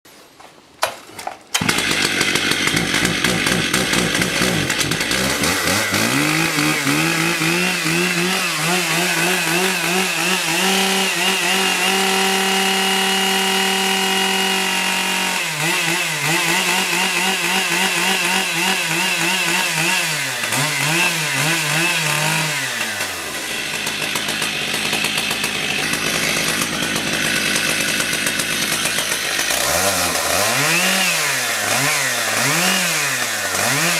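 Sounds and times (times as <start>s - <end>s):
chainsaw revving: 1.5s - 33.9s.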